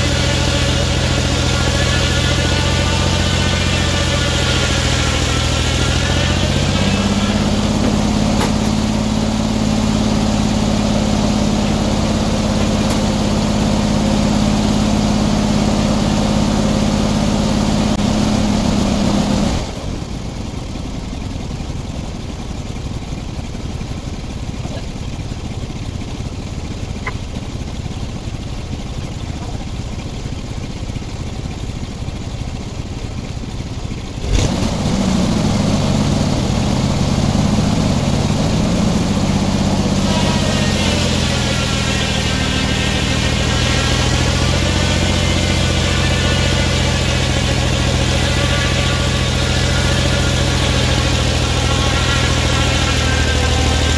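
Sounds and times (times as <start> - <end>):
engine running a circular saw: 0.0 - 53.9.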